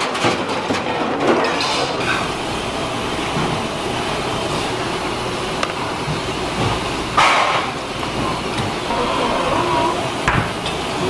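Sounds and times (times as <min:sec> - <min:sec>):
hot pan hissing: 0:01.9 - 0:11.0.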